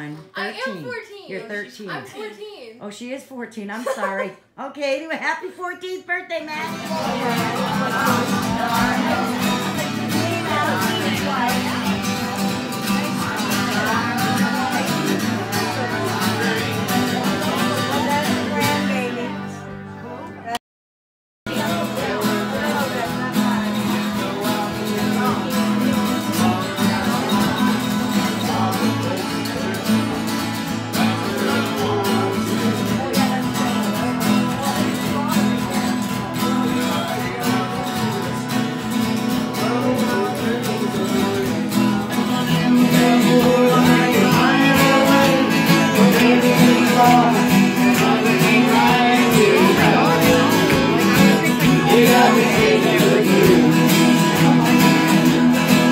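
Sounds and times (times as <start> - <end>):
acoustic guitars playing country: 0.0 - 20.6, 21.5 - 55.9.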